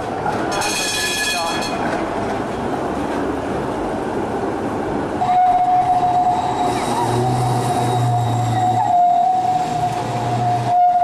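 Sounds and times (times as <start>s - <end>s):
tram rumbling past: 0.0s - 11.0s.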